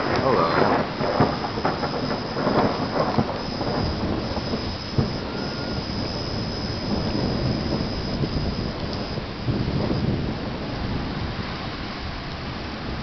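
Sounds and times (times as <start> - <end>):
rolling thunder: 0.0 - 13.0
steady rain: 0.0 - 13.0.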